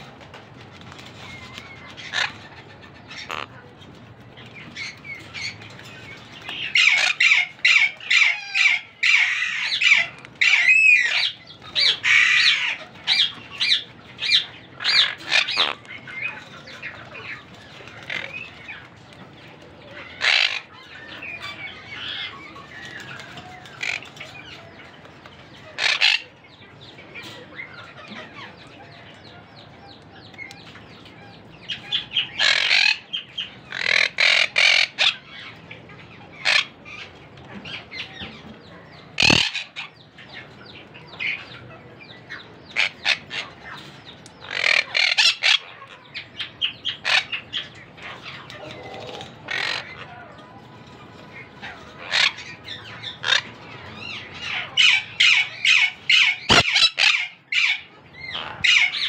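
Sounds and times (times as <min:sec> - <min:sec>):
parakeet and chicks calling: 0:00.0 - 0:59.0.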